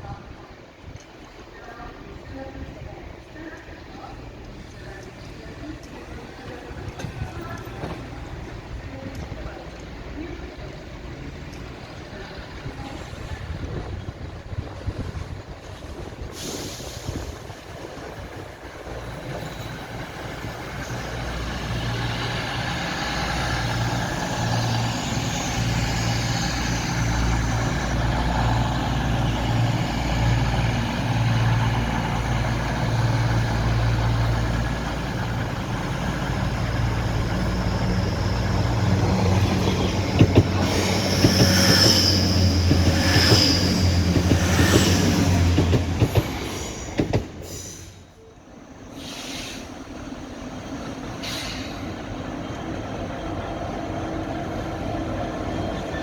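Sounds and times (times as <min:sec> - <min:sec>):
diesel train engine running: 0:09.9 - 0:56.0.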